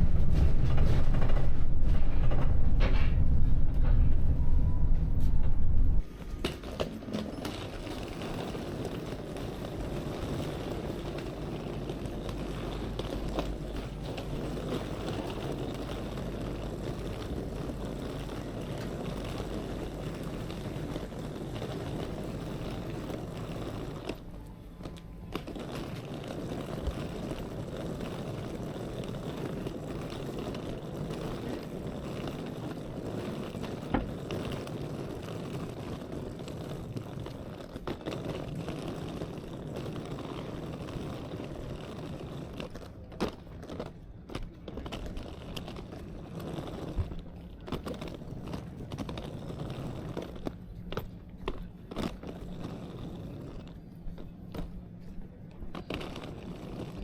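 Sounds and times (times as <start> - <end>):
low traffic rumble: 0.0 - 57.0.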